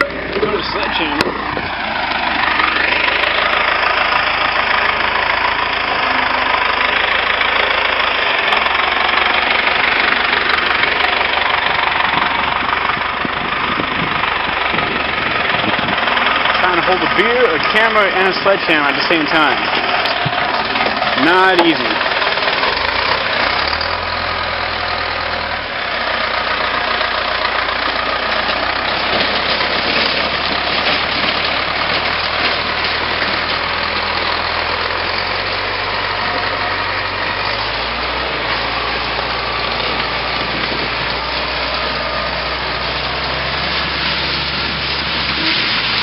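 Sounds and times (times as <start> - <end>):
tractor engine running: 0.0 - 46.0.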